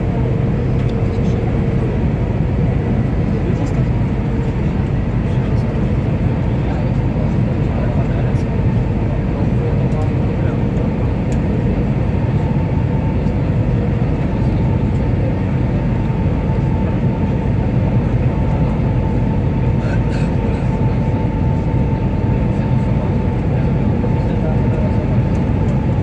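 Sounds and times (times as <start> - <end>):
jet engine rumble: 0.0 - 26.0.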